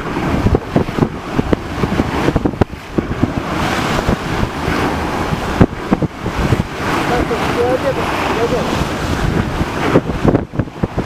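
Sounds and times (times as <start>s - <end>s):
water and waves: 0.0s - 11.0s
wind buffeting microphone: 0.0s - 11.0s.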